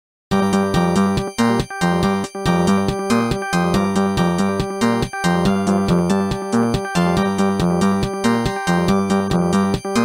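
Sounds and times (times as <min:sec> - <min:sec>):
synthesized ringtone melody: 0:00.4 - 0:10.0.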